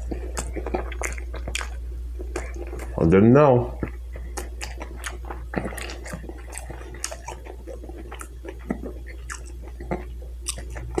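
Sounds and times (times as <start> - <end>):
wet chewing mouth sounds: 0.0 - 3.0, 3.7 - 11.0.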